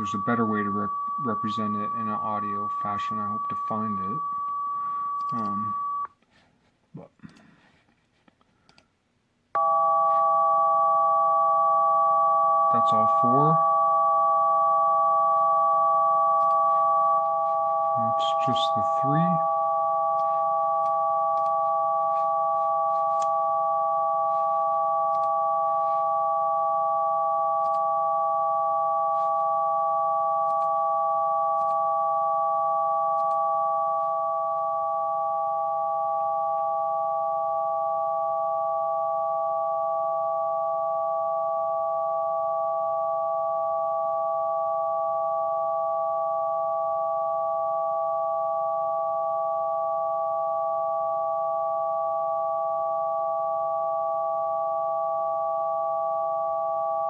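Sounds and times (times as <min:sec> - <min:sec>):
chord of sine tones: 0:00.0 - 0:06.1, 0:09.6 - 0:57.0.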